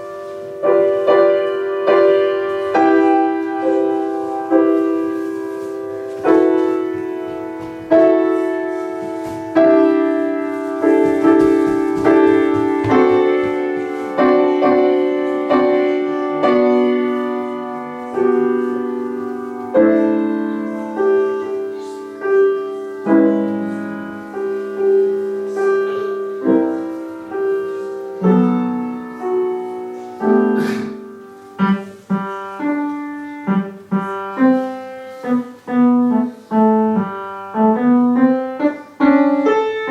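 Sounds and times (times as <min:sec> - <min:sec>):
slow piano piece: 0:00.0 - 0:39.9.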